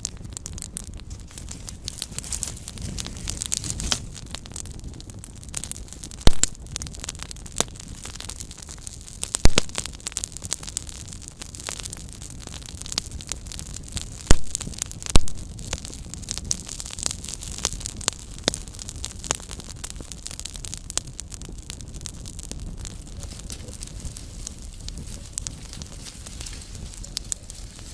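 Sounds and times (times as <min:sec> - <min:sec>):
campfire crackling: 0:00.0 - 0:27.9
loud fire pops: 0:00.0 - 0:27.9.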